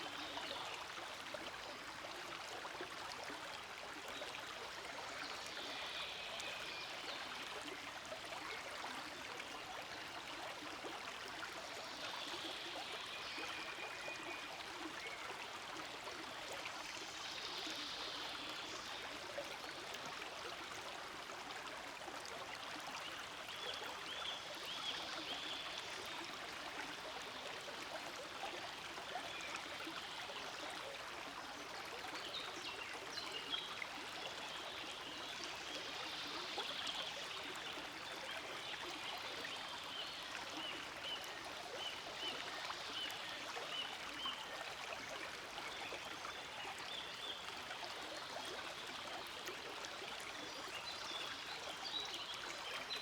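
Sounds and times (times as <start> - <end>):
stream running water: 0.0 - 53.0.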